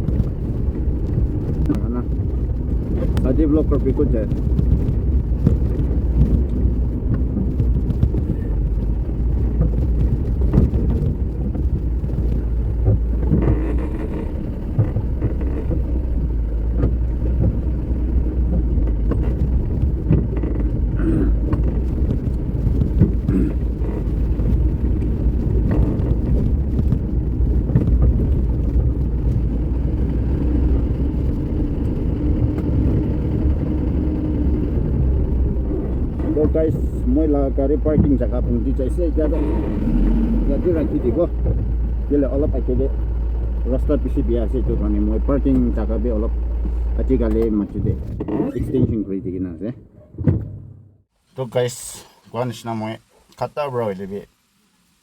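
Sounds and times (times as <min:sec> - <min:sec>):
car knocks and rattles: 0:00.0 - 0:51.1
car engine and tyres rumbling: 0:00.0 - 0:55.0.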